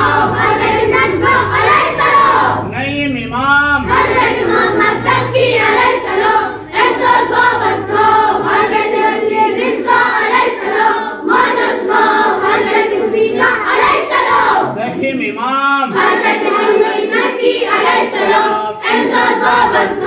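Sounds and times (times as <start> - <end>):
children singing a chant: 0.0 - 2.8, 3.7 - 14.9, 15.9 - 20.0.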